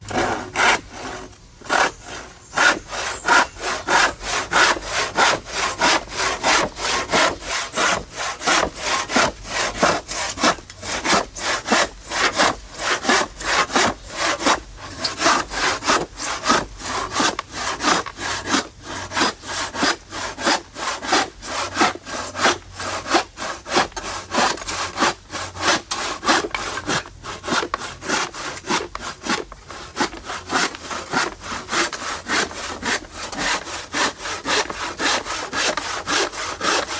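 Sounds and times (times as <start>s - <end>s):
saw cutting wood: 0.0s - 36.9s.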